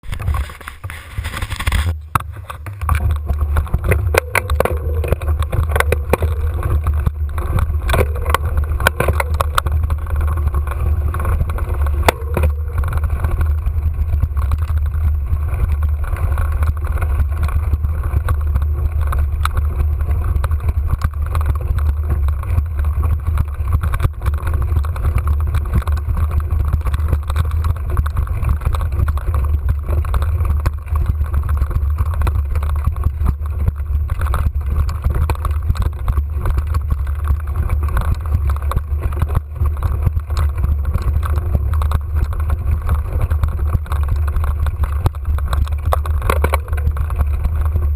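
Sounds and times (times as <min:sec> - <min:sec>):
bike clicking and rattling: 0:00.0 - 0:47.9
wind rumble on microphone: 0:00.0 - 0:47.9.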